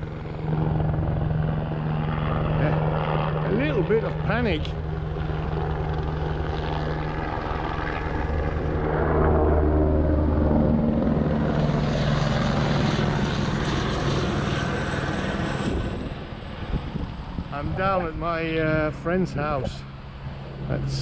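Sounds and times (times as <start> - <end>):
propeller aircraft drone: 0.0 - 21.0.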